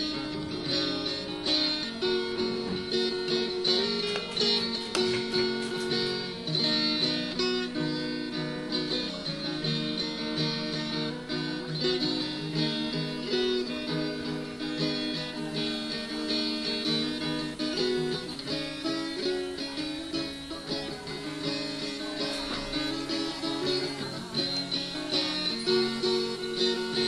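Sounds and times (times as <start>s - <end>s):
plucked acoustic guitar music: 0.0s - 27.0s.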